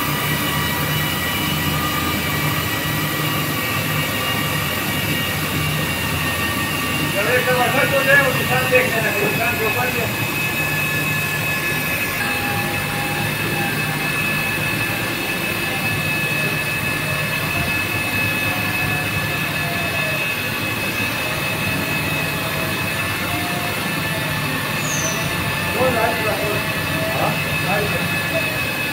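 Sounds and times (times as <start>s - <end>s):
cutting machine hissing and whining: 0.0s - 28.9s.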